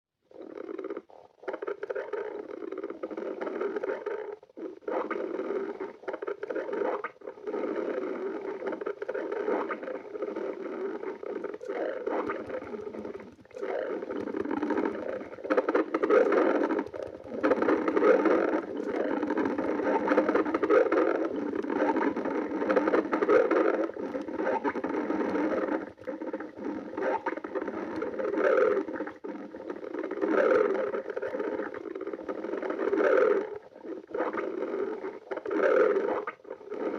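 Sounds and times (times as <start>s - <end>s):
stomach growling and gurgling: 0.2s - 36.9s.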